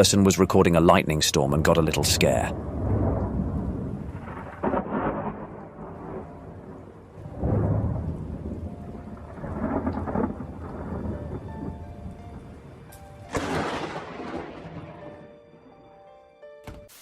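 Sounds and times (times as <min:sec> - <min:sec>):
rain falling: 0:00.0 - 0:15.4
thunder rumbling: 0:00.0 - 0:15.7.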